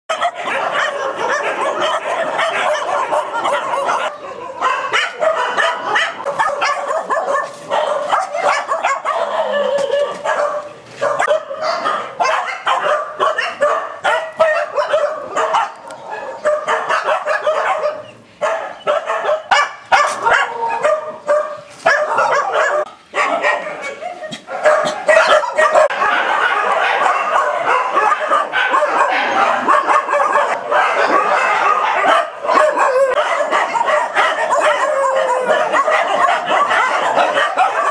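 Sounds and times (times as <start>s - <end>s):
dogs barking and yipping: 0.1s - 37.9s.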